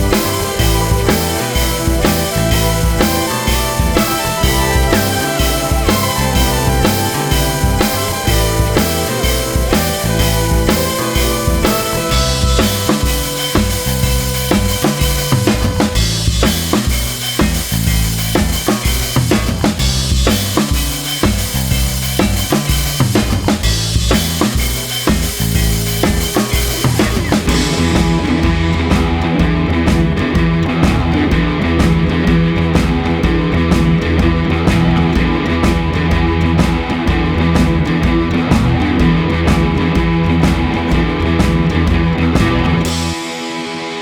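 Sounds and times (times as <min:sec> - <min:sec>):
band playing held notes: 0:00.0 - 0:44.0
drum kit playing a beat: 0:00.0 - 0:44.0.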